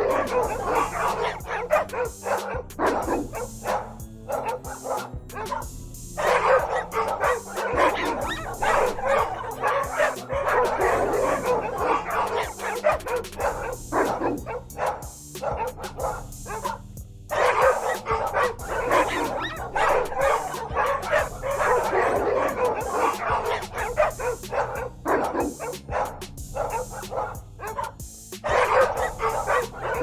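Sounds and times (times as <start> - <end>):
dogs barking and fighting: 0.0 - 30.0.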